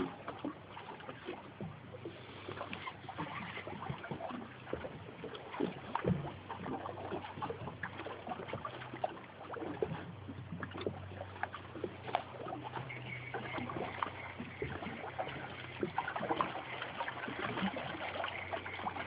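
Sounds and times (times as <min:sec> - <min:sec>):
low steady hum: 0:00.0 - 0:19.0
water lapping against hull: 0:00.0 - 0:19.0.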